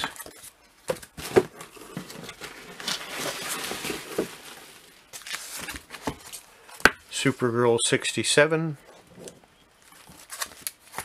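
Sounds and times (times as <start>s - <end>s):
plastic sleeves rustling: 0.0s - 7.6s, 8.8s - 11.0s.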